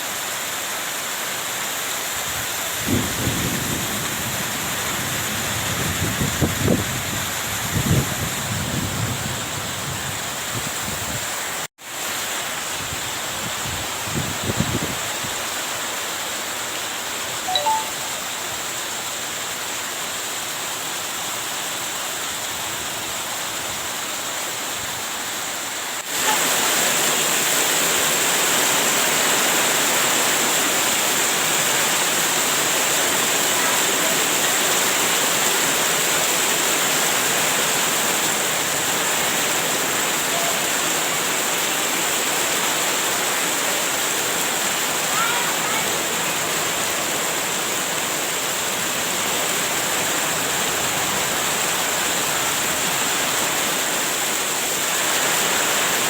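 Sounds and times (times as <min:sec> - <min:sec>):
heavy rain pouring: 0:00.0 - 0:56.0
wind: 0:00.0 - 0:56.0.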